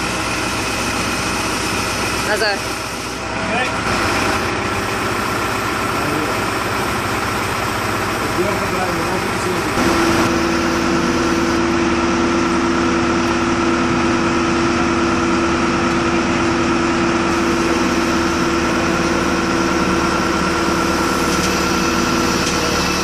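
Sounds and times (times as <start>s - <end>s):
crane engine humming: 0.0s - 23.0s.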